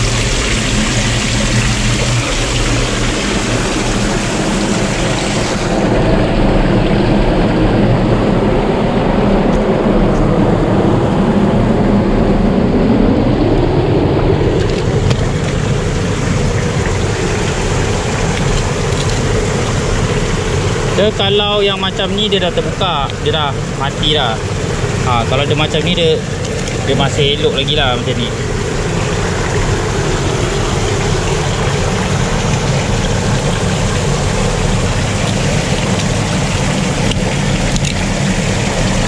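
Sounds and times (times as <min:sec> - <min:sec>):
water sloshing and splashing: 0:00.0 - 0:10.5, 0:11.7 - 0:39.0
boat motor humming: 0:00.0 - 0:39.0.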